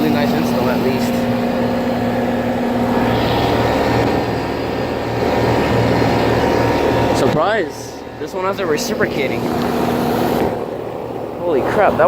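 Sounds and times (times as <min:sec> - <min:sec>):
air conditioner fan blowing: 0:00.0 - 0:12.0
compressor humming: 0:00.0 - 0:12.0.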